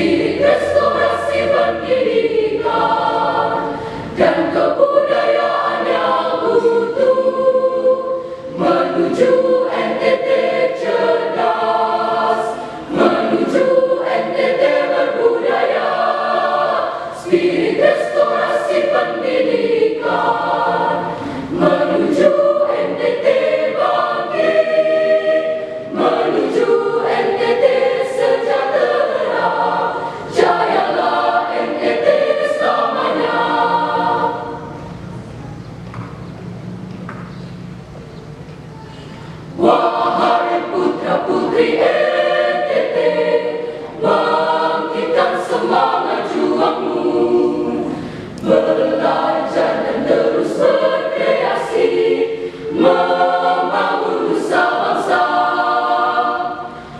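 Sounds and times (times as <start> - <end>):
choir singing in parts: 0.0 - 35.2, 39.2 - 56.9.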